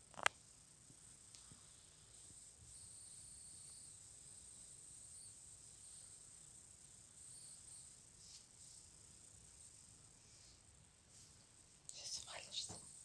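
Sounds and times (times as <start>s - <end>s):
faint high-pitched hiss: 0.0s - 13.0s.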